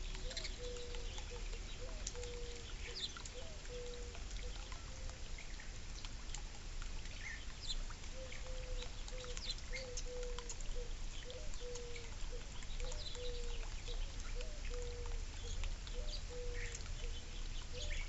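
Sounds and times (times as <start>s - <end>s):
small birds chirping: 0.0s - 18.0s
trickling water from fountain: 0.0s - 18.0s.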